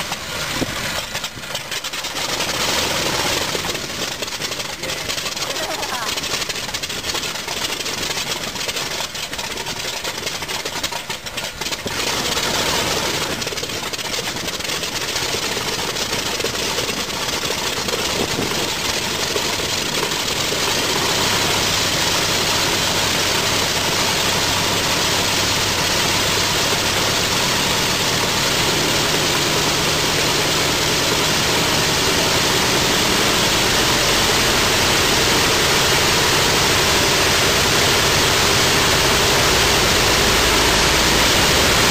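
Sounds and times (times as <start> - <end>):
radial aircraft engine running: 0.0 - 41.9.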